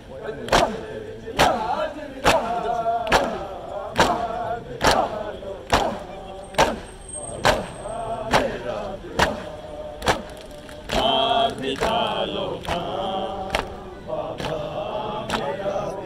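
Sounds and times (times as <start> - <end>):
crowd of men chanting: 0.0 - 16.0
hands slapping chests in unison: 0.4 - 15.8.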